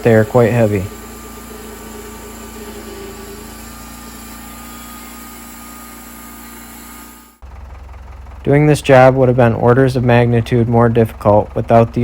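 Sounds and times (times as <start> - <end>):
sawmill engine running: 0.0 - 12.0.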